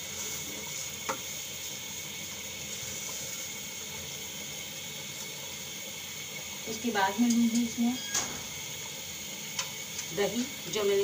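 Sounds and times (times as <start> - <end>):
food hissing in pot: 0.0 - 11.0.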